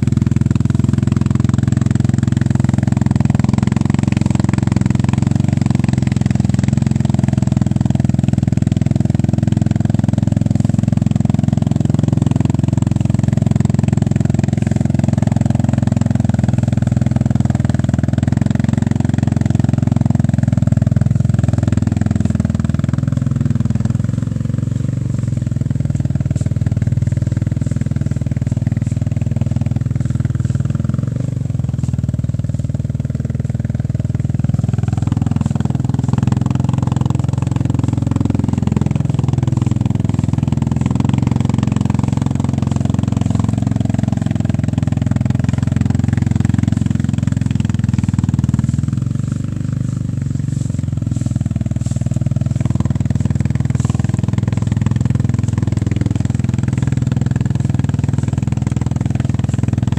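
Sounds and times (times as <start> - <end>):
quad bike engine under load: 0.0 - 59.9.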